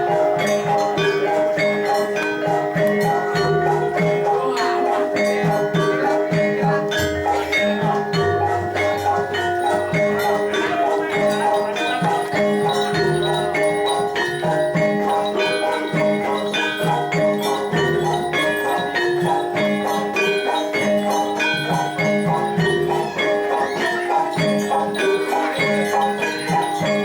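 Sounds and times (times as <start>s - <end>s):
bronze keyed instruments and gongs: 0.0s - 27.0s
drum notes: 0.0s - 27.0s
jingling bells: 0.0s - 27.0s.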